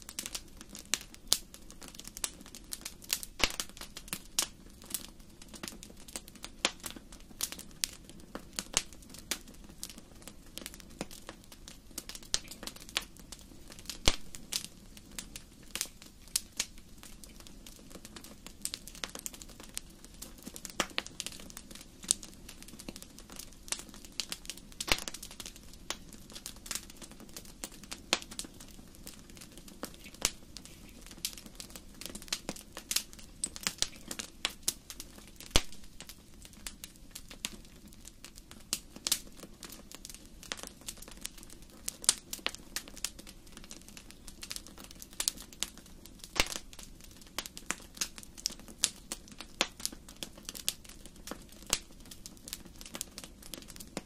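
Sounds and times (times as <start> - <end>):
low steady hiss: 0.0 - 54.0
wood fire crackling and popping: 0.0 - 54.0.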